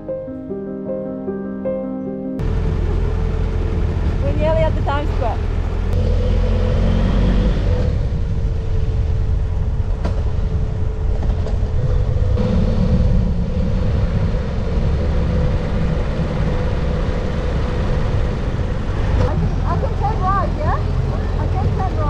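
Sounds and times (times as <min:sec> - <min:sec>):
motorcycle engine running: 0:02.4 - 0:22.0
wind and road noise: 0:02.4 - 0:22.0.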